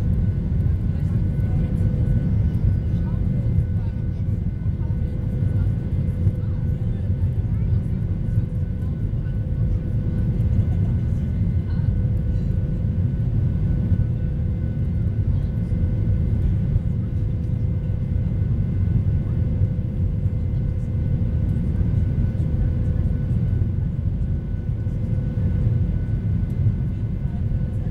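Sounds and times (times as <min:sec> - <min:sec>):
jet engine rumble in cabin: 0:00.0 - 0:27.9.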